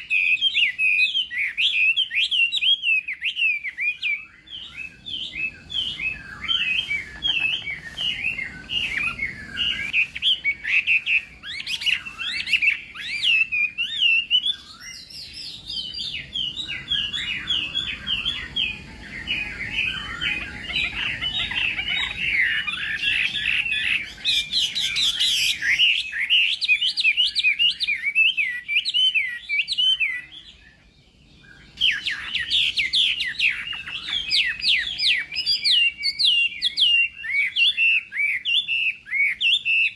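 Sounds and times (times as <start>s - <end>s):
bird singing whistled phrases: 0.0s - 30.8s, 31.4s - 39.9s.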